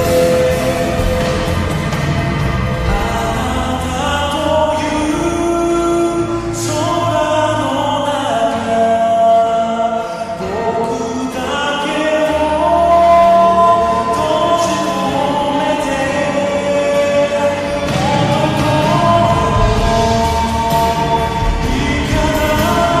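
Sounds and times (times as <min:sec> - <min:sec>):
slowed pop song with reverb: 0:00.0 - 0:23.0.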